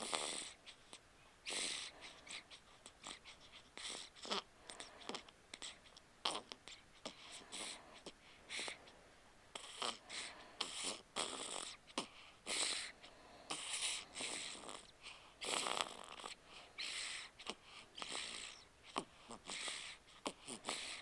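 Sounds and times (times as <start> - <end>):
baby snoring: 0.0 - 8.9, 9.5 - 21.0.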